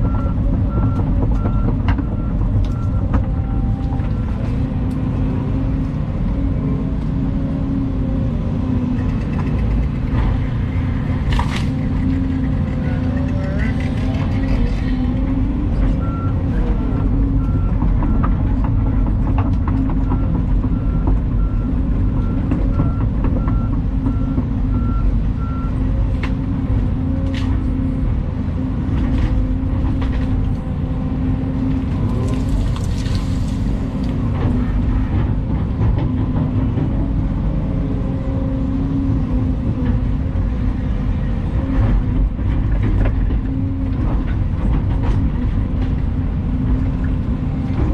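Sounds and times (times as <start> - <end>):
excavator engine and hydraulics: 0.0 - 47.9.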